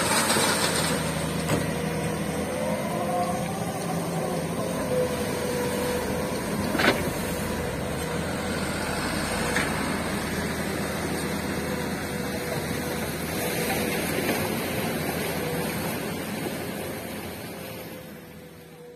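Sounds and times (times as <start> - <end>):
diesel truck engine running: 0.0 - 18.9.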